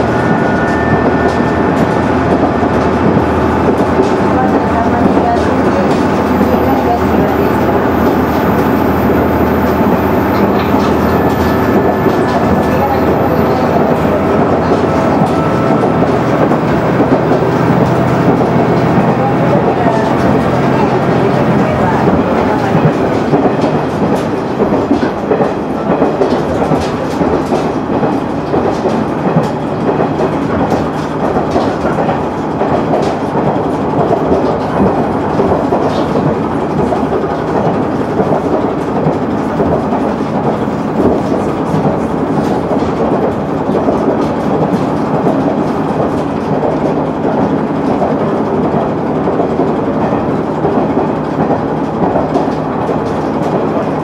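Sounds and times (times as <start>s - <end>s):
railcar engine and wheels rumbling: 0.0s - 54.0s
wheels clicking over rail joints: 0.5s - 54.0s.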